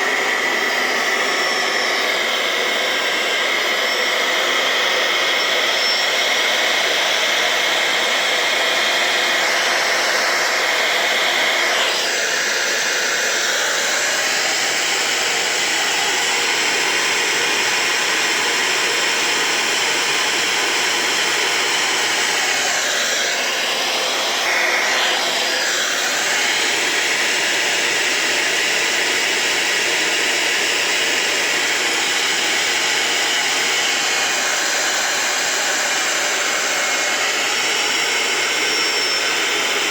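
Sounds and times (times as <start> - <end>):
air blower motor whining: 0.0 - 39.9.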